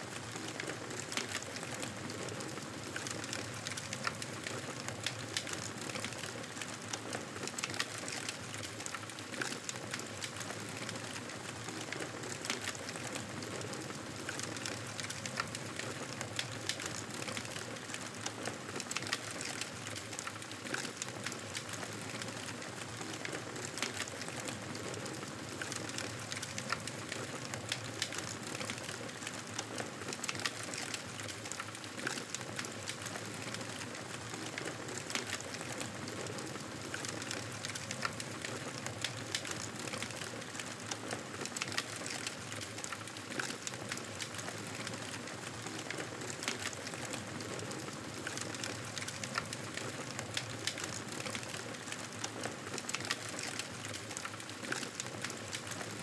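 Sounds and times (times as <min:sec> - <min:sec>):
burning wood crackling and popping: 0:00.1 - 0:56.0.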